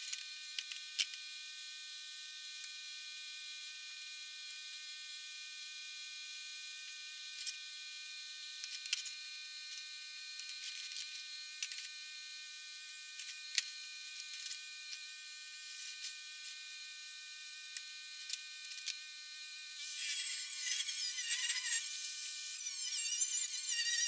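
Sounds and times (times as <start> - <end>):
thin buzz: 0.0 - 24.0.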